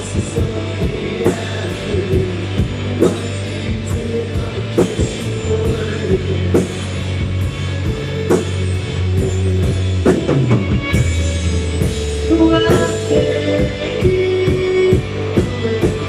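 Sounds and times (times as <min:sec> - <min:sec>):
bass guitar: 0:00.0 - 0:16.0
drum kit and cymbals: 0:00.0 - 0:16.0
electric guitars: 0:00.0 - 0:16.0.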